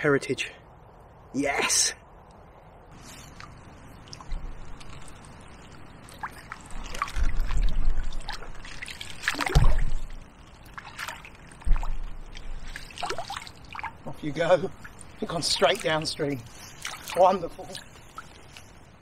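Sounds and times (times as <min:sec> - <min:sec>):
water splashing and trickling: 0:02.9 - 0:19.0.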